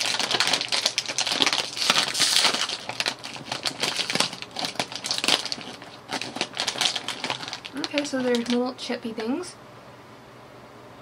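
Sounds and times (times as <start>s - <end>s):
plastic snack packet crinkling: 0.0s - 9.2s.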